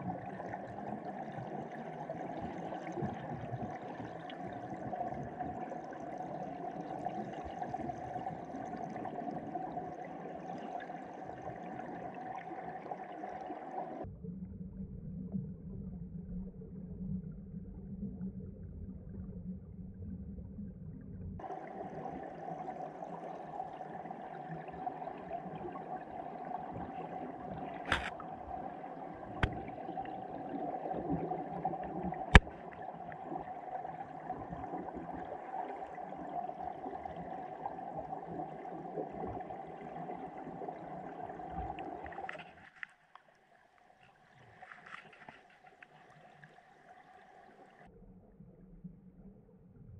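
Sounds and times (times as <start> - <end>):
muffled underwater rush: 0.0 - 42.8.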